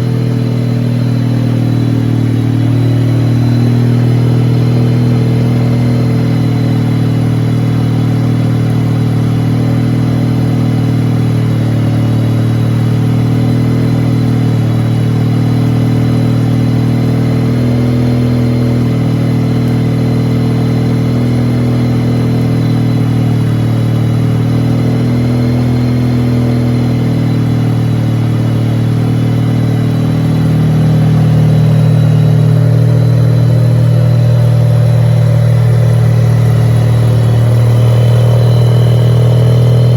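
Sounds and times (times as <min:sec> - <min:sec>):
rotary car engine running: 0:00.0 - 0:39.9.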